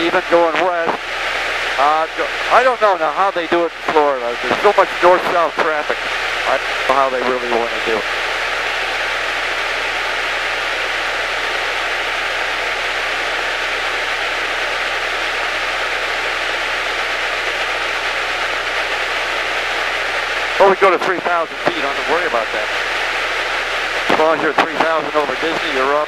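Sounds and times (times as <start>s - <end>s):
radio hiss: 0.0s - 26.0s.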